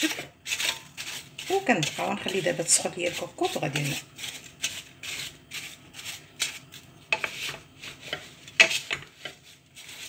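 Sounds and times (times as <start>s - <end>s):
wooden spoon scraping a pot: 0.0s - 10.0s.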